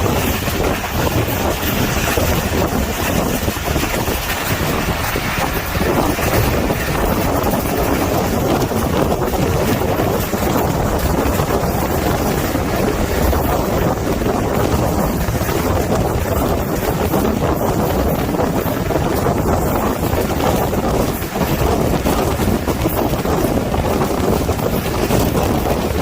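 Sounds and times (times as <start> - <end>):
moving train running noise: 0.0 - 26.0
wind on microphone: 0.0 - 26.0.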